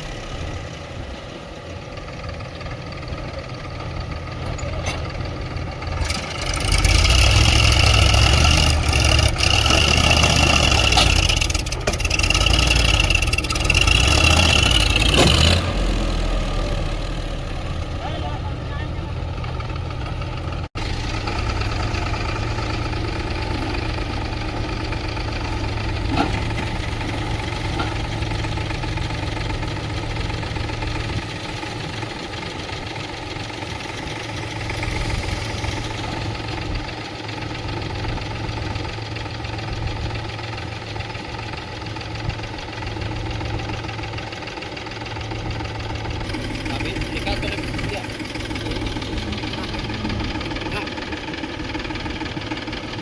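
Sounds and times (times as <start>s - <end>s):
diesel machinery engine running: 0.0s - 53.0s.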